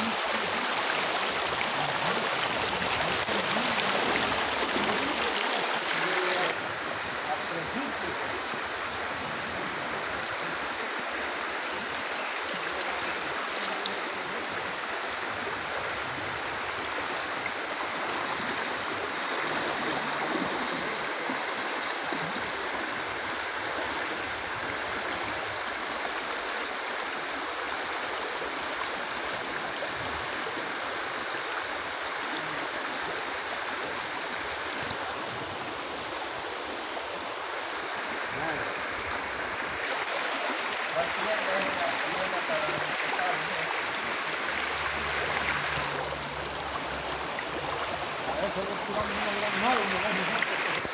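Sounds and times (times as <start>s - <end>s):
river water rushing over rocks: 0.0s - 50.9s.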